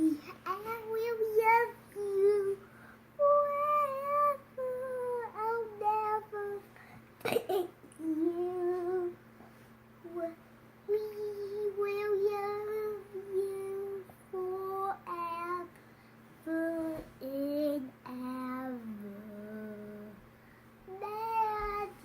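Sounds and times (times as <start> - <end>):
boy singing slow tune: 0.0 - 22.0
faint steady hum: 0.0 - 22.0.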